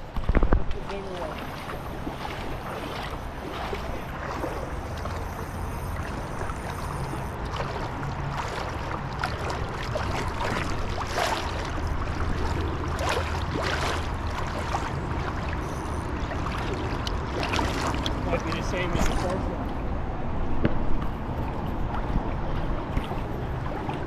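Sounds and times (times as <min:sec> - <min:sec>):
river water running: 0:00.0 - 0:24.0.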